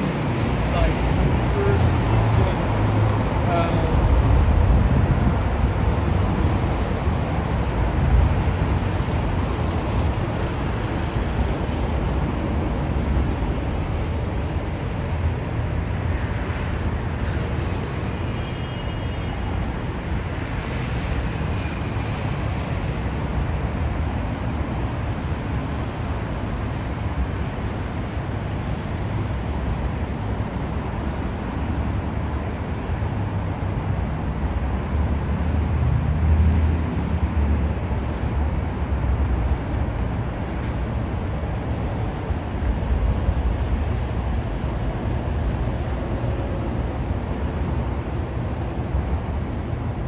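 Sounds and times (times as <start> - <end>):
cars passing on busy road: 0.0 - 50.0.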